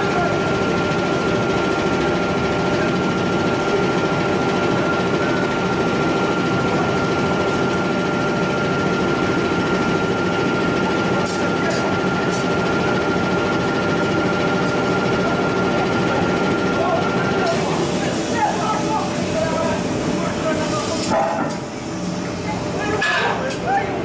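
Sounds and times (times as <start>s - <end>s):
furnace air blower whining: 0.0s - 24.0s.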